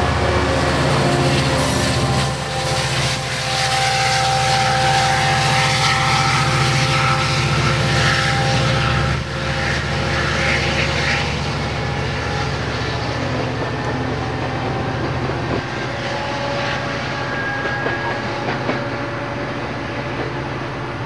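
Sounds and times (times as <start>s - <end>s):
diesel locomotive engine drone: 0.0s - 21.0s
high steady whine: 0.0s - 21.0s.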